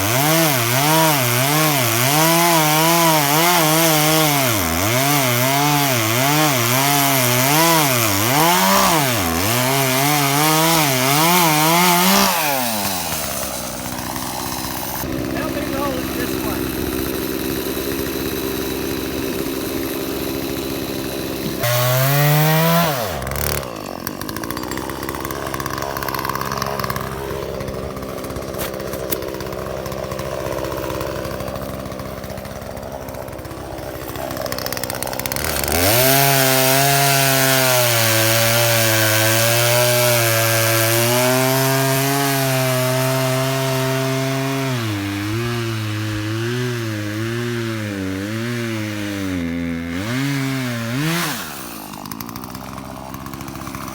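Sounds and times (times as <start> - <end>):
chainsaw cutting a log: 0.0 - 53.9.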